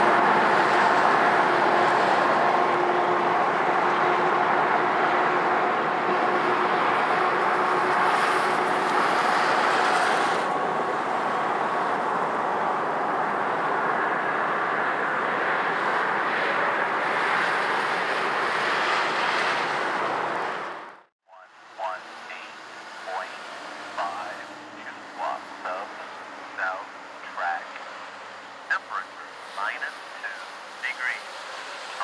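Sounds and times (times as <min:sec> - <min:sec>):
diesel locomotive: 0:00.0 - 0:32.0
highway traffic: 0:00.0 - 0:32.0.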